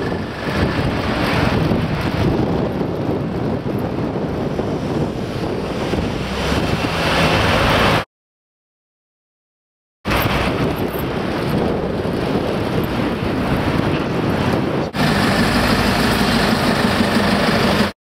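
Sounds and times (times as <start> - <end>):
wind buffeting microphone: 0.0 - 8.0, 10.1 - 17.9
road and traffic noise: 0.0 - 8.1, 10.1 - 17.9.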